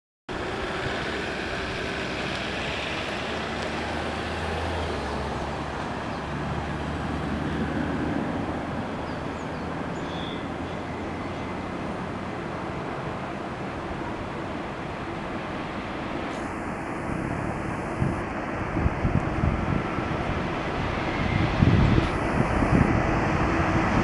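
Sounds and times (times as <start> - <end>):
electric locomotive hum: 0.3 - 24.0
train wheels on rails: 0.3 - 24.0.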